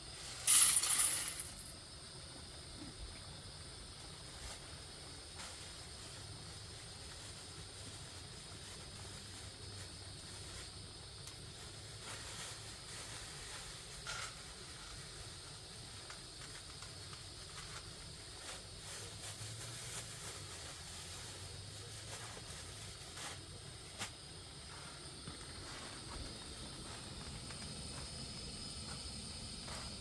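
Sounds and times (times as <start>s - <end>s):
faint hissing noise: 0.0s - 30.0s.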